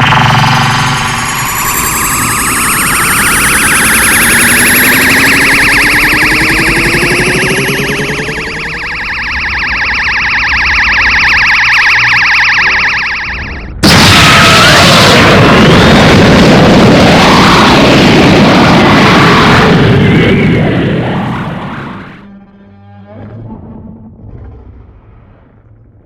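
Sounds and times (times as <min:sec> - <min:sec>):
warbling energy beam whine: 0:00.0 - 0:22.3.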